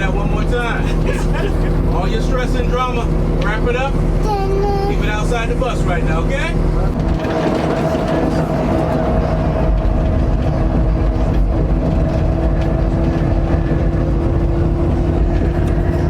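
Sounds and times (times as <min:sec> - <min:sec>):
bus engine rumble and whine: 0:00.0 - 0:16.0.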